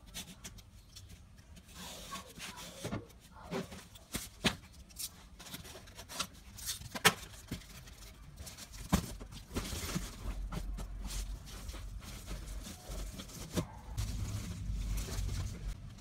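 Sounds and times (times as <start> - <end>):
cardboard rustling: 0.0 - 16.0.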